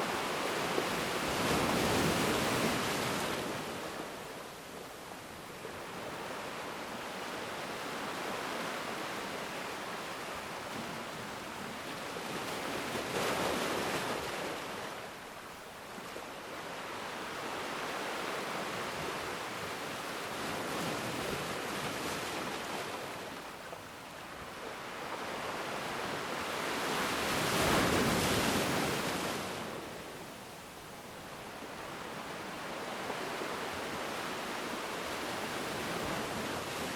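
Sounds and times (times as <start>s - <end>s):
waves breaking on shore: 0.0s - 36.9s.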